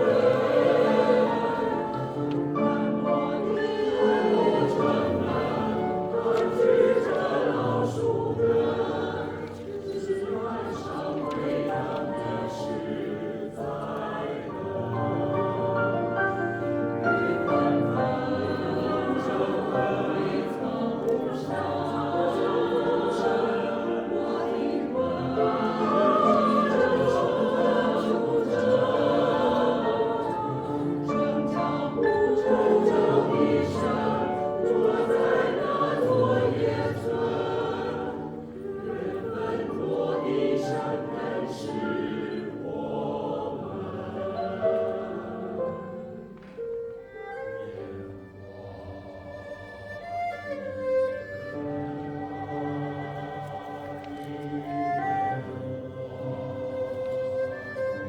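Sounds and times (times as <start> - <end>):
choir-like singing: 0.0 - 58.0.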